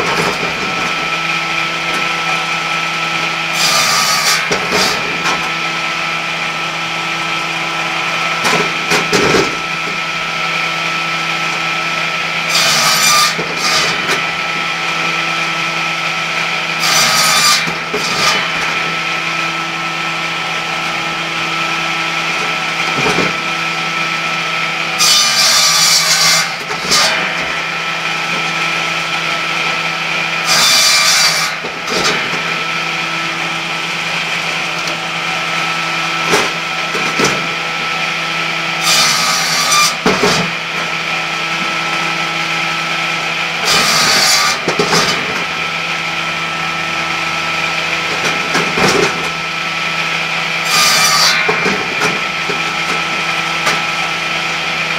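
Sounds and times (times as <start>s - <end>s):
saw blade rasping through log: 2.0s - 5.8s, 11.5s - 54.9s.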